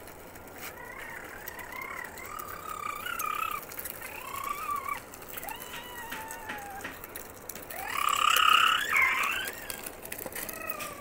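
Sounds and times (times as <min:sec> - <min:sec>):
toy quad bike motor whining: 0:00.0 - 0:11.0.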